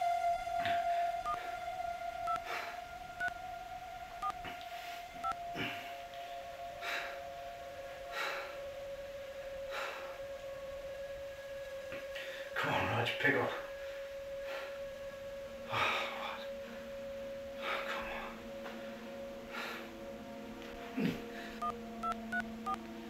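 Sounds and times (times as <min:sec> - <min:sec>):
steady held tone: 0:00.0 - 0:22.9.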